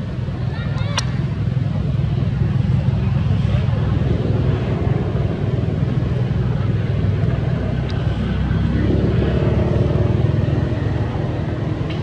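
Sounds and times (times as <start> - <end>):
engine rumbling: 0.0 - 12.0
higher engine hum: 0.0 - 12.0.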